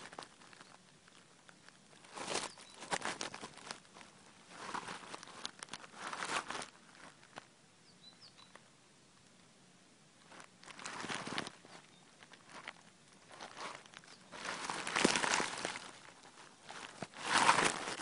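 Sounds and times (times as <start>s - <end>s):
quick clicks and crackles: 0.0s - 7.5s, 10.3s - 18.0s
rustling and scuffling: 0.0s - 7.5s, 10.2s - 18.0s.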